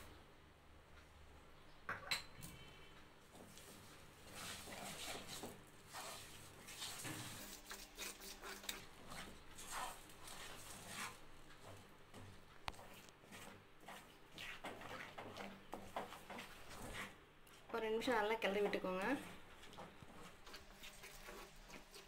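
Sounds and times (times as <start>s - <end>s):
wooden spatula scraping in a pan: 3.2s - 22.0s.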